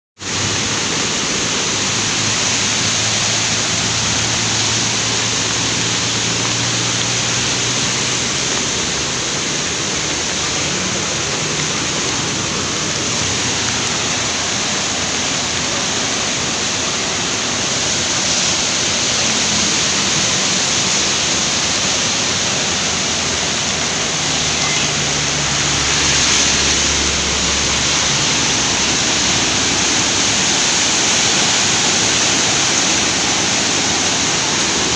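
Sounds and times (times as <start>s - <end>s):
river rushing through rapids: 0.2s - 34.9s.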